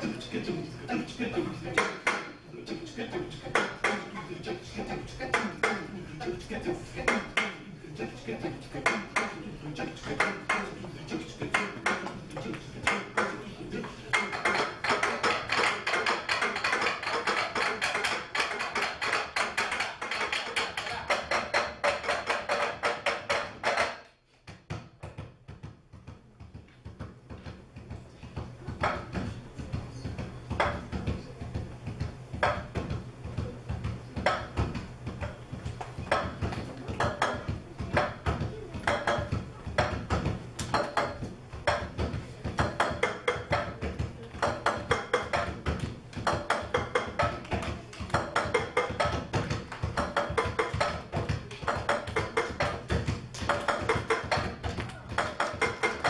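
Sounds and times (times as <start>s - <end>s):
cups tapped as percussion: 1.0s - 2.4s, 3.4s - 5.9s, 7.0s - 7.6s, 8.8s - 9.4s, 10.0s - 10.8s, 11.4s - 56.0s.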